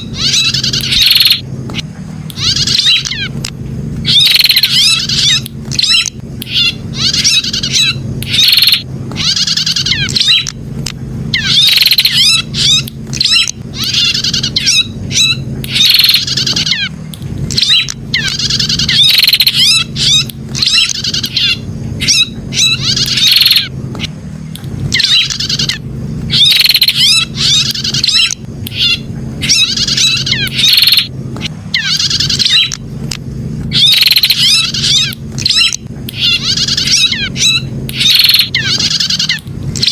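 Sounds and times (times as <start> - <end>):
bird high rapid chirping: 0.0 - 10.6, 11.3 - 39.9
steady low hum: 0.0 - 39.9.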